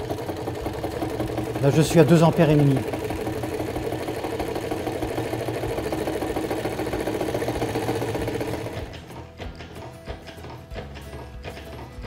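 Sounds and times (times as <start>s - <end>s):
electromagnetic motor clattering: 0.0s - 12.0s.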